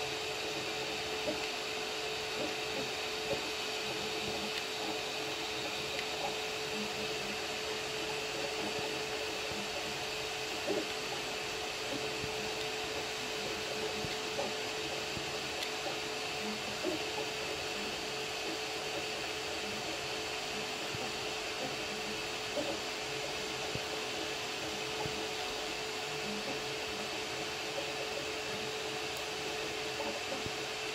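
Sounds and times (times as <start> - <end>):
cooling fans whirring: 0.0 - 30.9
steady hum: 0.0 - 30.9.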